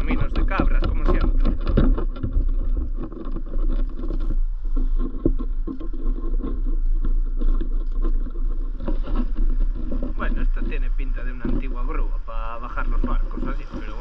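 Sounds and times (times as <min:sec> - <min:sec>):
footsteps on dirt path: 0:00.0 - 0:14.0
low rumble of wind: 0:00.0 - 0:14.0
rustle and knock of carried gear: 0:00.0 - 0:14.0.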